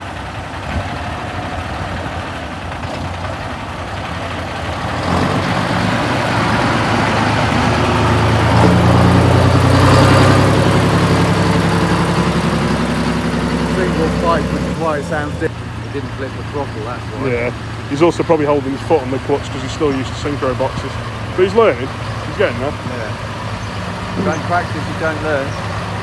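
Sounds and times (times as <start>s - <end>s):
truck diesel engine: 0.0s - 26.0s.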